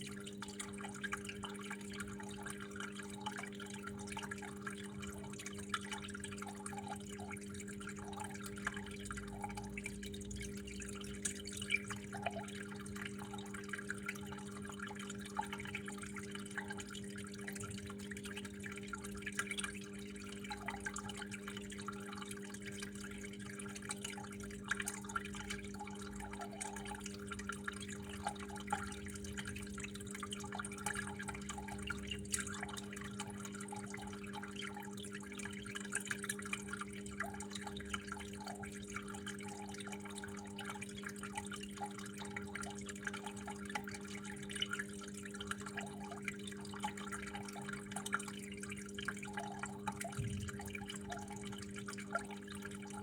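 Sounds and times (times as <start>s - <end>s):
small water splashes: 0.0s - 53.0s
water trickling and dripping: 0.0s - 53.0s.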